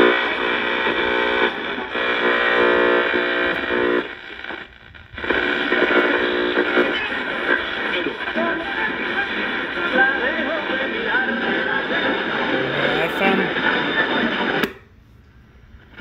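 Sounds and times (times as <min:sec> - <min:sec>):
radio tuning hiss: 0:00.0 - 0:14.7
distorted broadcast music: 0:00.0 - 0:14.8.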